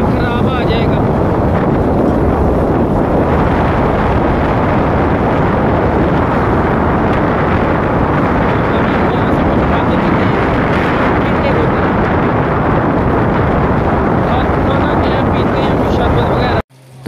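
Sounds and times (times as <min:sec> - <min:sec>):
motorcycle engine: 0:00.0 - 0:15.9
road noise: 0:00.0 - 0:17.0
wind rush over microphone: 0:00.0 - 0:17.0.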